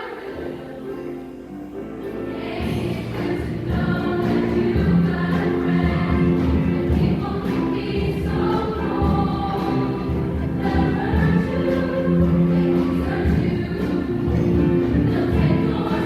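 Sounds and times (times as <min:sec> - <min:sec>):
choir singing chords: 0:00.0 - 0:16.0
low pulsing accompaniment: 0:02.5 - 0:16.0.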